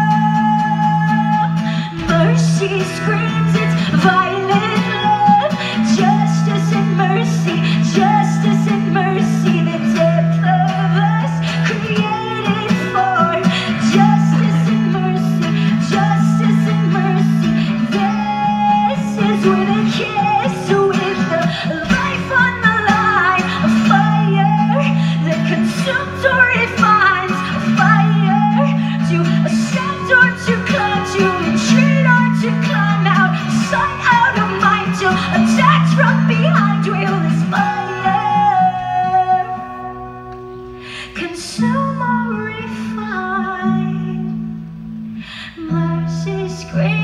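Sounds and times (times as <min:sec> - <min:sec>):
acoustic guitar: 0:00.0 - 0:47.0
woman singing into a microphone: 0:00.0 - 0:47.0.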